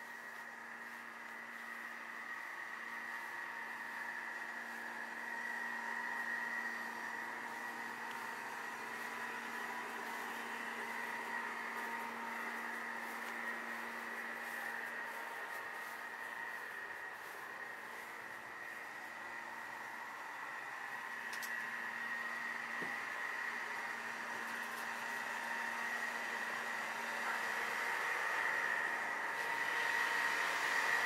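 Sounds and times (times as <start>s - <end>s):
constant whine: 0.0s - 31.0s
steady hum: 0.0s - 31.0s.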